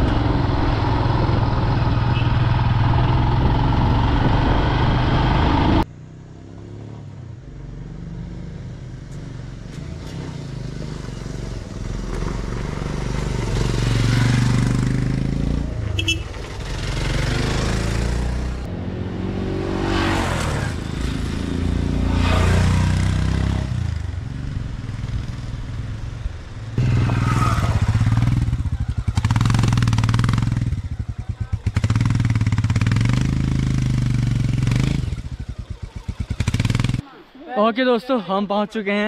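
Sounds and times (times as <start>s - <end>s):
motorcycle engine revving: 0.0s - 7.2s, 7.8s - 37.2s.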